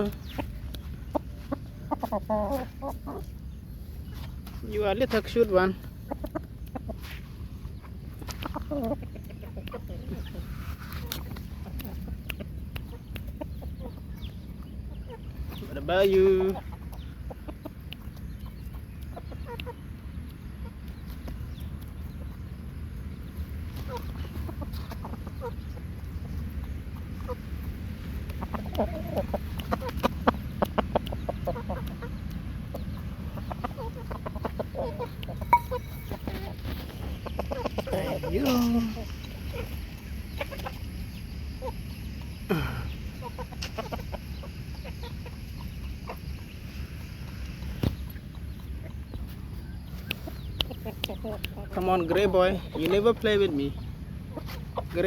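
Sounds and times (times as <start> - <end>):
chickens clucking: 0.0 - 55.0
low steady rumble: 0.0 - 55.0.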